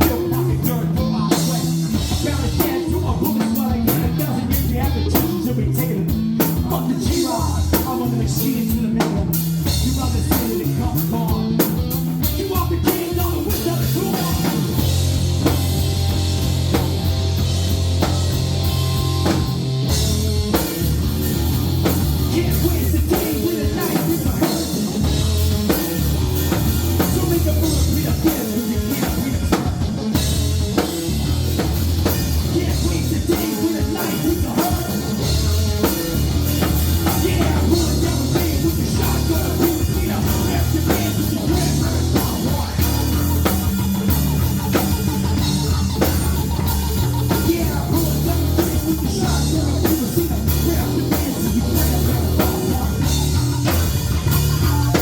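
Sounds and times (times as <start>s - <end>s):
person singing: 0.0s - 16.8s, 21.9s - 31.0s, 32.0s - 55.0s
bass guitar: 0.0s - 55.0s
drum kit: 0.0s - 55.0s
electric guitar: 0.0s - 55.0s.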